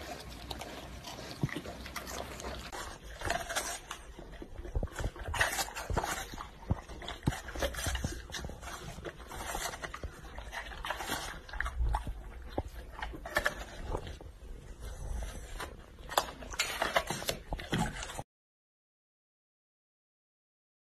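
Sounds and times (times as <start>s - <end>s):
dogs chewing and licking: 0.0s - 18.2s.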